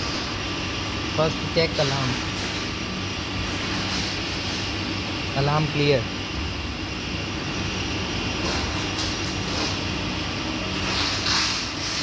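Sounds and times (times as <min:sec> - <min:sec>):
lathe whirring hum: 0:00.0 - 0:12.0
workshop machinery running: 0:00.0 - 0:12.0.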